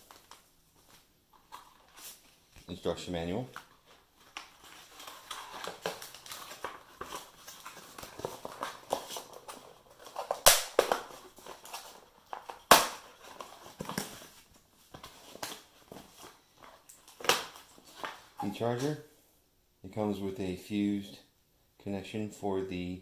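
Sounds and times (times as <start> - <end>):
cardboard and plastic rustling: 0.0 - 19.0.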